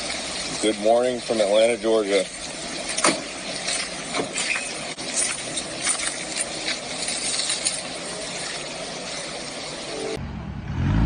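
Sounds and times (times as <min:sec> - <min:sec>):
hiss of passing vehicles: 0:00.0 - 0:11.0.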